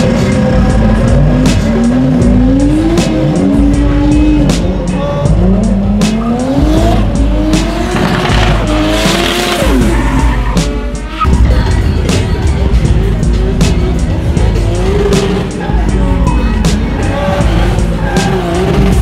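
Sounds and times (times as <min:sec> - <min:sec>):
car engine revving: 0:00.0 - 0:19.0
music with a steady beat: 0:00.0 - 0:19.0.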